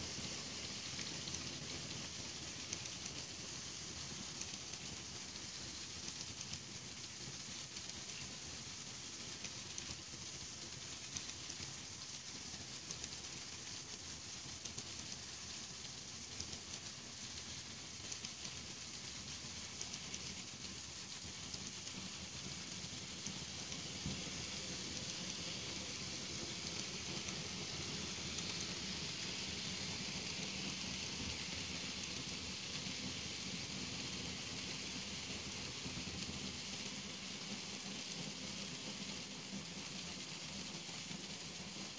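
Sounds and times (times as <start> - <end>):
model train wheels clattering: 0.0 - 41.9.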